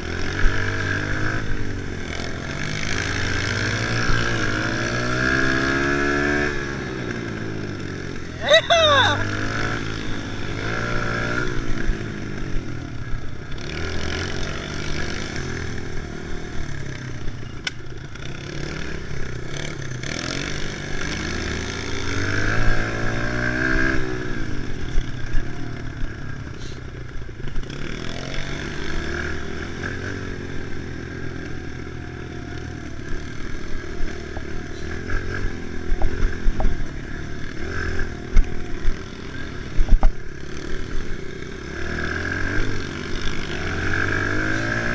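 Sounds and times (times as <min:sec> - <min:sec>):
small motorcycle engine revving: 0:00.0 - 0:44.9.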